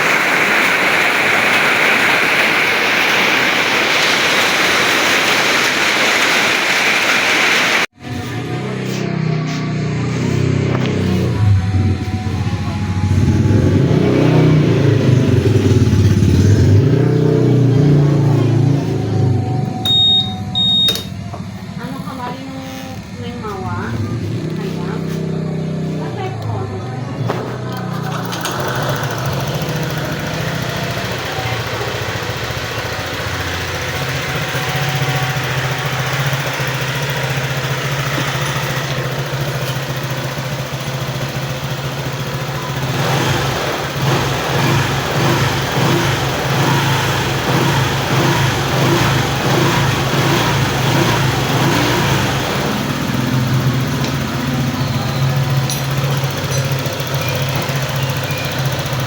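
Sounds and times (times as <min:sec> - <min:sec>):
scooter engine idling: 0:07.8 - 0:59.0.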